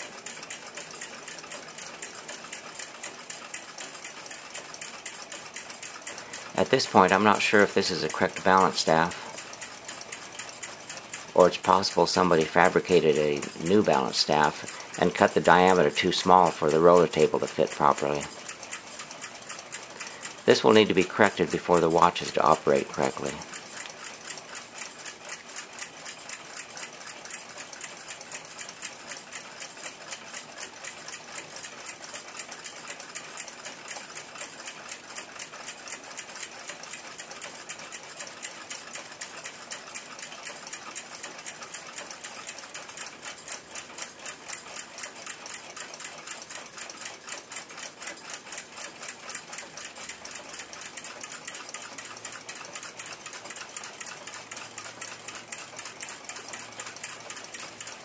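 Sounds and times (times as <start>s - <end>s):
fast mechanical ticking: 0.0s - 58.0s.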